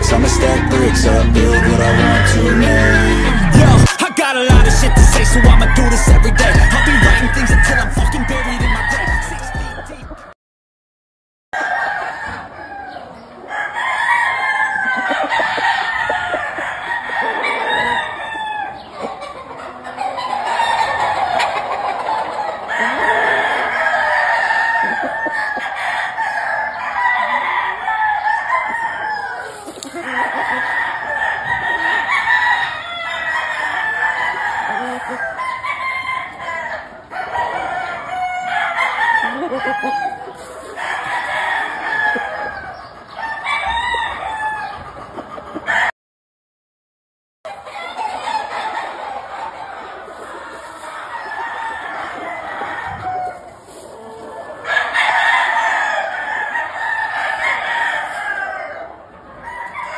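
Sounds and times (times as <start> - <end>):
chickens clucking: 0.0 - 10.4, 11.6 - 45.9, 47.5 - 59.9
roosters crowing: 0.0 - 10.4, 11.6 - 45.9, 47.5 - 59.9.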